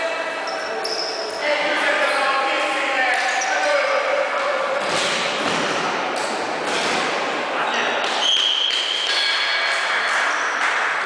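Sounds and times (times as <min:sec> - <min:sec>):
players' voices: 0:00.0 - 0:11.0.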